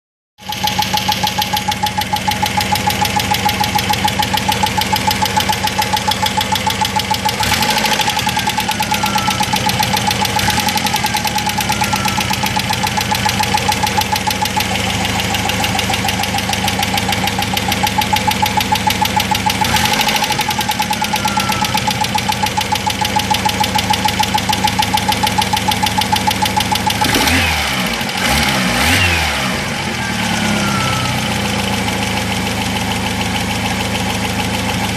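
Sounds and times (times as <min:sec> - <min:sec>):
car engine knocking: 0:00.4 - 0:29.1, 0:29.9 - 0:34.9
engine whine: 0:00.5 - 0:33.6.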